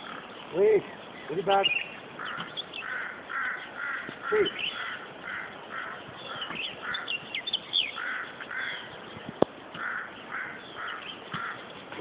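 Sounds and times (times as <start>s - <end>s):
high bird chirps: 0.0s - 11.8s
short bird calls: 0.0s - 12.0s.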